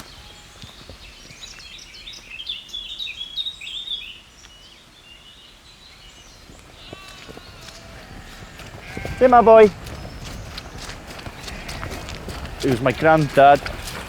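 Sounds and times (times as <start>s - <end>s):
outdoor background noise: 0.0s - 14.0s
songbird chirping: 0.0s - 14.0s.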